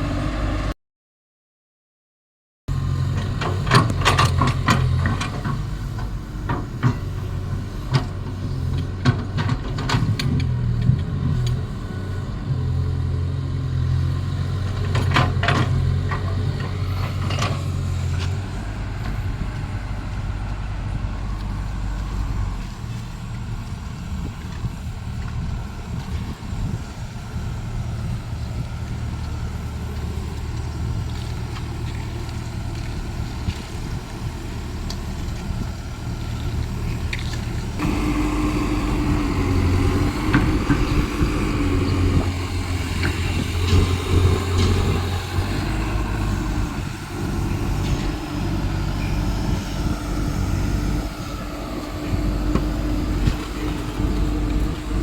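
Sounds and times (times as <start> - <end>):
excavator diesel engine running: 0.0 - 0.7, 2.7 - 55.0.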